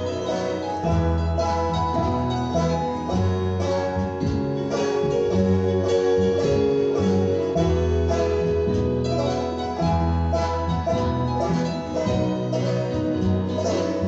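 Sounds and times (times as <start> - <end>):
banjo picking: 0.0 - 14.0
bass line: 0.0 - 14.0
bluegrass gospel band playing: 0.0 - 14.0
guitar picking: 0.0 - 14.0.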